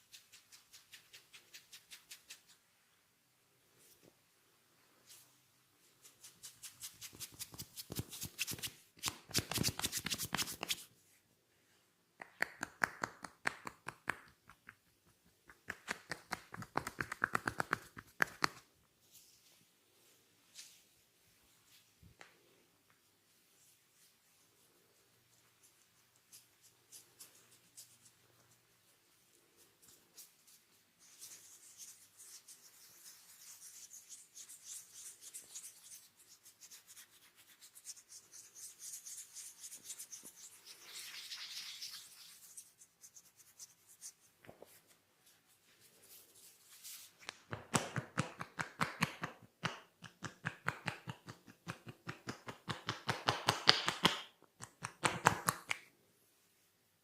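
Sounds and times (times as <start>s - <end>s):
hands rubbing through hair: 0.0s - 2.7s, 5.0s - 10.9s, 12.2s - 54.0s.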